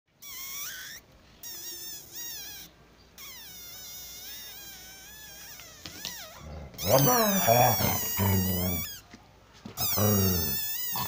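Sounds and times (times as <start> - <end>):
dog whining: 0.2 - 9.1, 9.8 - 11.0.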